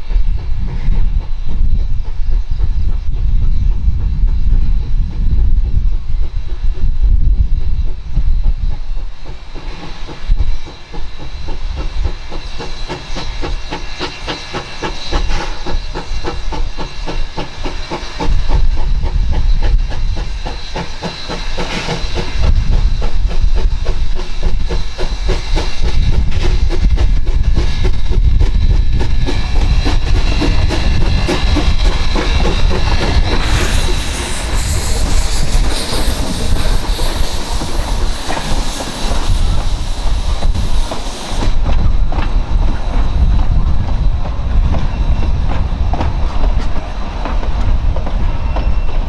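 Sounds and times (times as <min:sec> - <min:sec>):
steam hissing: 0:00.0 - 0:49.0
train wheels clicking: 0:06.0 - 0:49.0.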